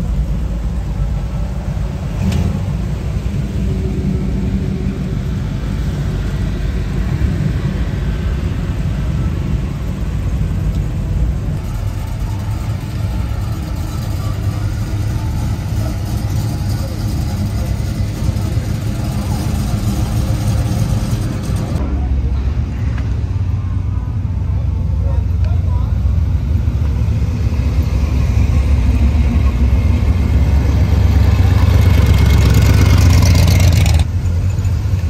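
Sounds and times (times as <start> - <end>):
vehicle engine low rumble: 0.0 - 35.0.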